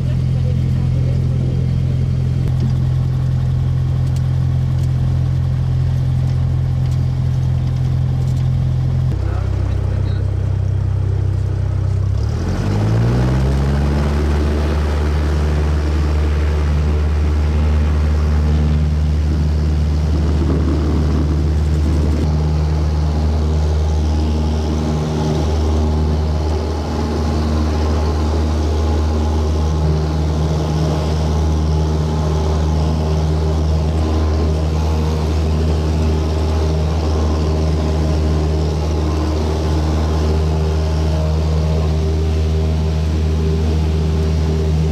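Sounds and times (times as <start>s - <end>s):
propeller plane engine droning: 0.0s - 44.9s.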